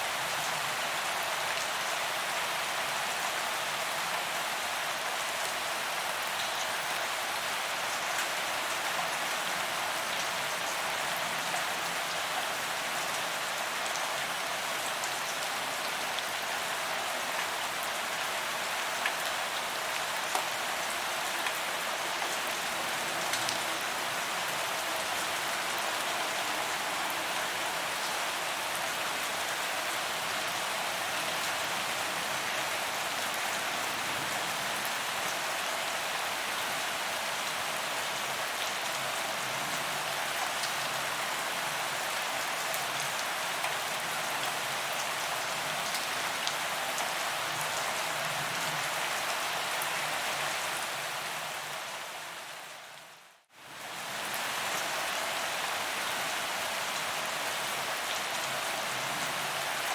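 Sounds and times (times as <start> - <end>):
rain falling on pavement: 0.0 - 59.9.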